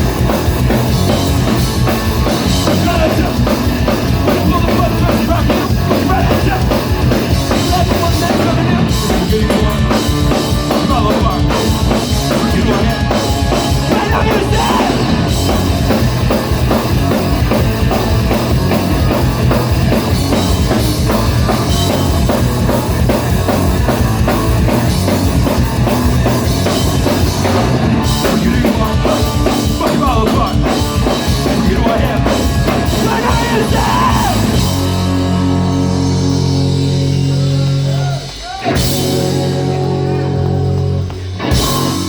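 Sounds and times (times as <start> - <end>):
drum kit: 0.0 - 42.0
live rock band playing: 0.0 - 42.0.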